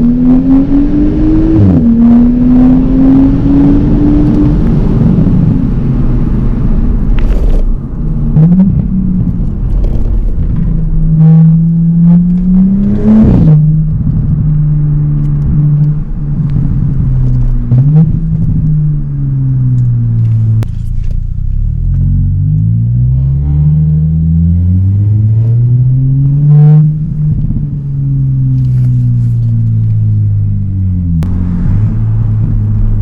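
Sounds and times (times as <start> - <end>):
car exhaust accelerating: 0.0 - 33.0.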